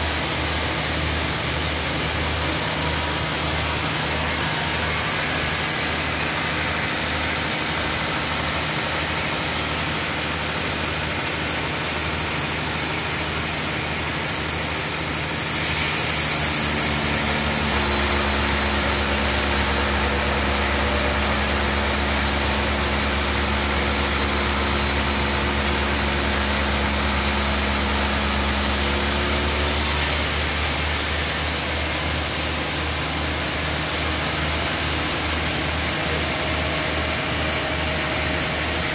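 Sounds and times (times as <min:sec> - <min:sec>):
band sawmill mechanical hum: 0:00.0 - 0:38.9.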